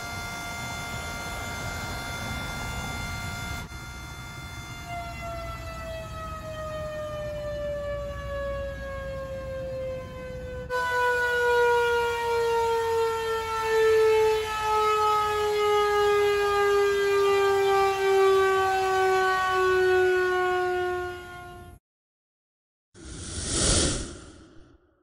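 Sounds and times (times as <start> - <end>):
air raid siren wailing: 0.0 - 21.8.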